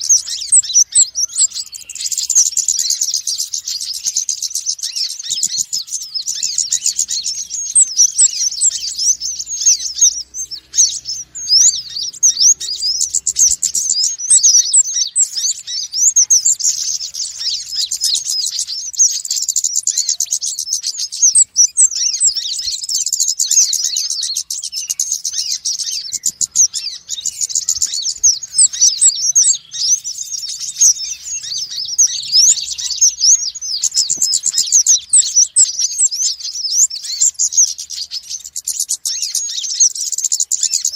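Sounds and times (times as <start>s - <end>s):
sunbirds chirping and twittering: 0.0s - 40.9s.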